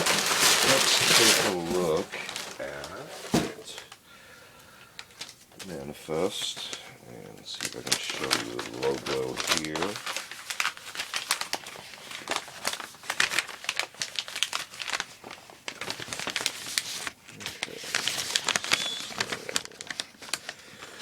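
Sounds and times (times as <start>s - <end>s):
paper crinkling and rustling: 0.0s - 4.0s, 4.9s - 21.0s.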